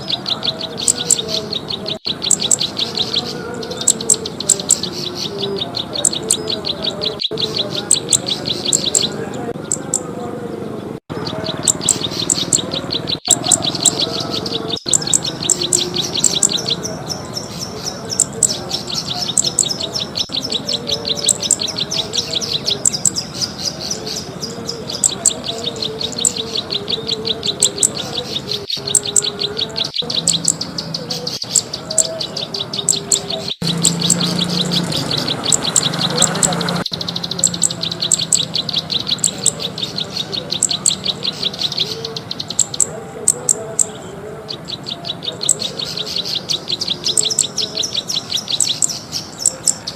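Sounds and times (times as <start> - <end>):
bird ticking chirp: 0.0 - 10.2, 11.1 - 49.9.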